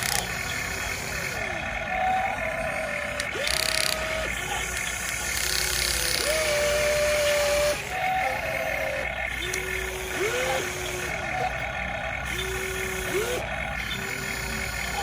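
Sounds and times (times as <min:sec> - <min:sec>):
electric motors whining: 0:00.0 - 0:15.0
steady mechanical hiss: 0:00.0 - 0:15.0.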